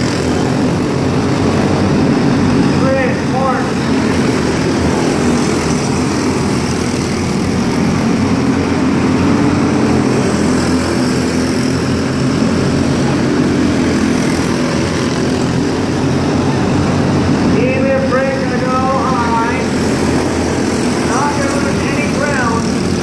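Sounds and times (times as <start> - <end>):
small race car engines droning: 0.0 - 23.0.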